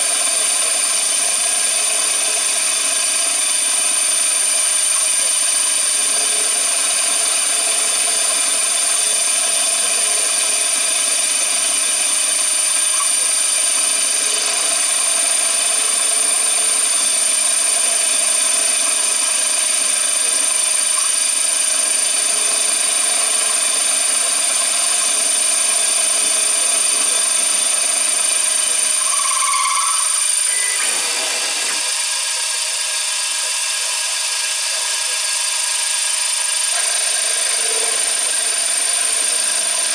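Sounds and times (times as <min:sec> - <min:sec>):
machine cutting with high whine: 0:00.0 - 0:39.9.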